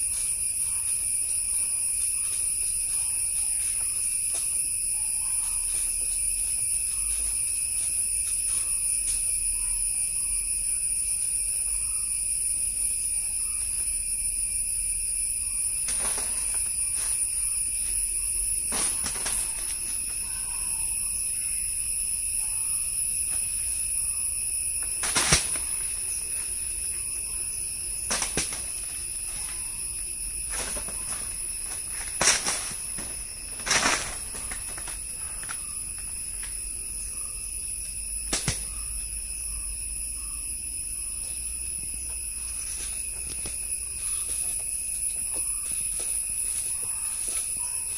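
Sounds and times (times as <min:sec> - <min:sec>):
high-pitched insect chorus: 0:00.0 - 0:47.9.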